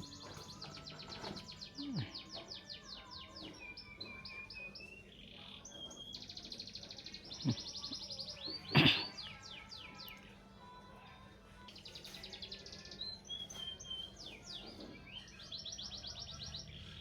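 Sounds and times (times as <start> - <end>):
songbird song: 0.0 - 17.0.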